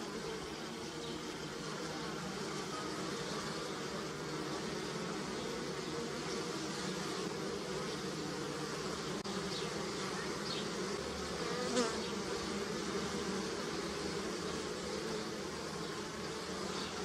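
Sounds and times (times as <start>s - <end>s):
bee passing close: 0.0s - 17.0s
bees buzzing: 0.0s - 17.0s.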